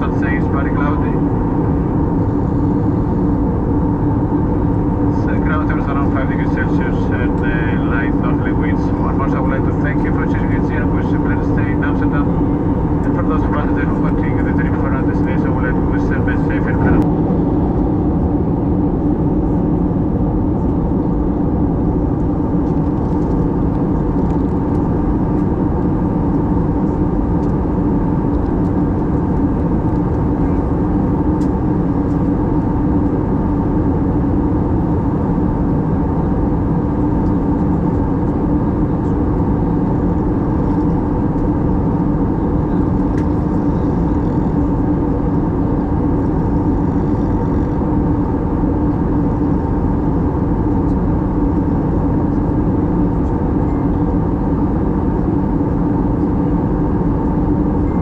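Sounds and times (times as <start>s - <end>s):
aircraft engines droning: 0.0s - 58.0s
constant low hum: 0.0s - 58.0s.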